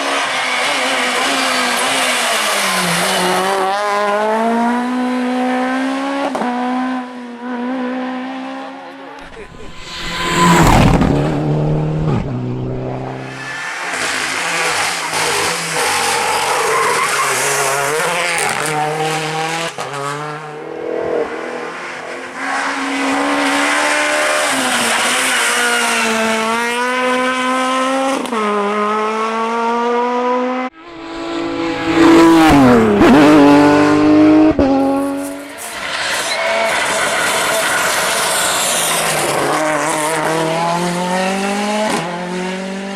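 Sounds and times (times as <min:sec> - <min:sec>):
rally car engine at full throttle: 0:00.0 - 0:42.9
rally car passing by: 0:00.0 - 0:42.9.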